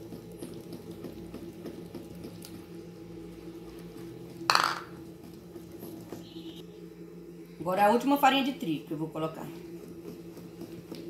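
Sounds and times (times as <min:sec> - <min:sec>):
low hum: 0:01.5 - 0:11.0.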